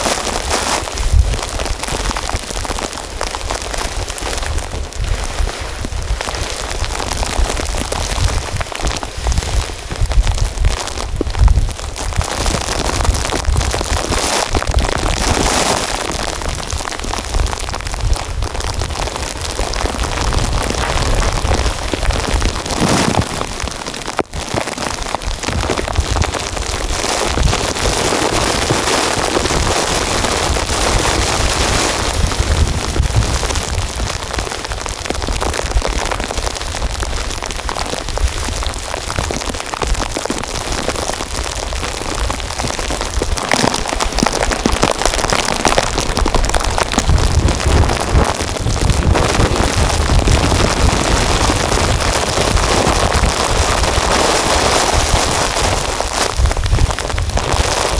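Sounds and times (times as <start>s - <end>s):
heavy rain pattering: 0.0s - 57.9s.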